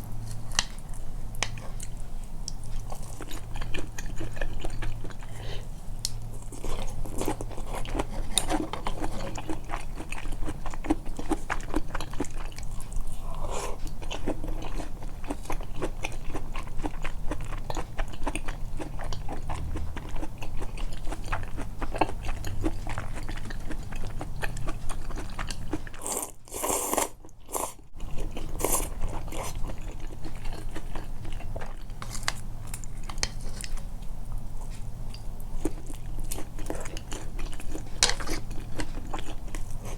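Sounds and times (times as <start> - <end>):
person chewing food: 0.1 - 39.9.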